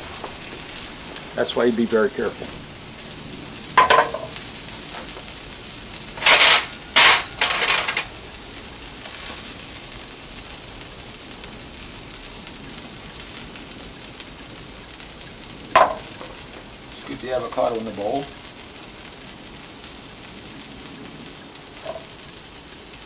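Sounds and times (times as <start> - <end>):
vegetables sizzling on griddle: 0.0 - 23.0.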